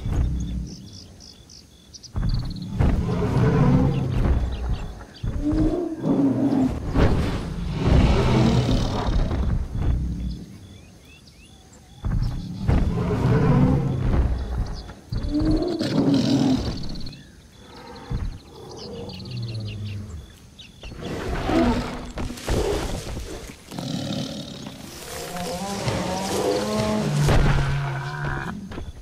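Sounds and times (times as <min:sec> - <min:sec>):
big cat growling and roaring: 0:02.6 - 0:10.5, 0:12.3 - 0:20.3, 0:20.9 - 0:28.7.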